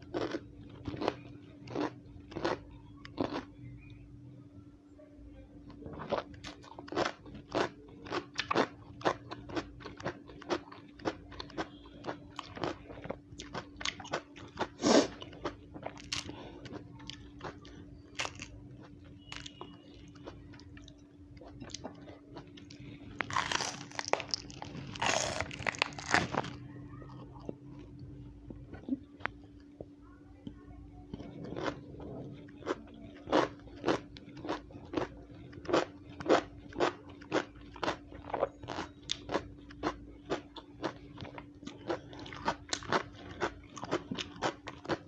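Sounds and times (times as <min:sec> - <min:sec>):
crunching raw vegetables: 0:00.0 - 0:04.0, 0:05.7 - 0:29.7, 0:31.1 - 0:45.0
steady low hum: 0:00.0 - 0:45.0.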